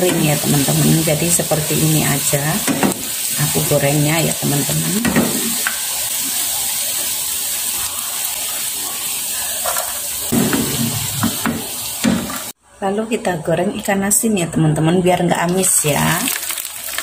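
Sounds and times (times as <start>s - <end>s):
food sizzling in hot oil: 0.0s - 12.6s, 15.6s - 17.0s.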